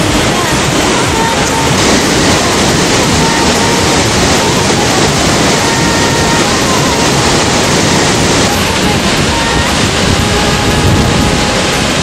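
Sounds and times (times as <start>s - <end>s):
river rushing over boulders: 0.0s - 12.0s
waterfall pouring into a pool: 0.0s - 12.0s.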